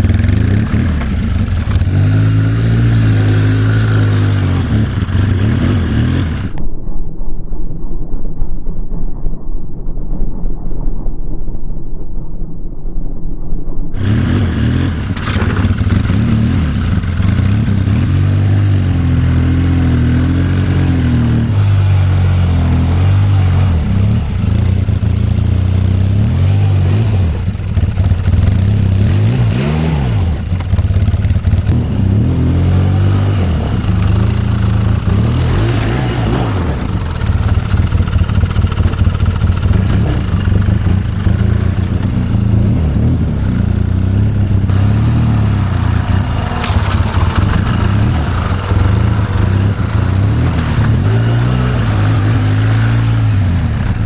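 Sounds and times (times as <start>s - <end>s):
atv engine revving: 0.0s - 6.6s, 14.0s - 54.0s.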